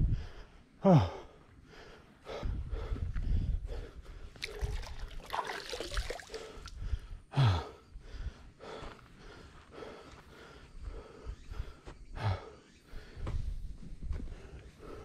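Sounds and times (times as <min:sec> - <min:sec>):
man panting: 0:00.0 - 0:05.0, 0:06.2 - 0:15.0.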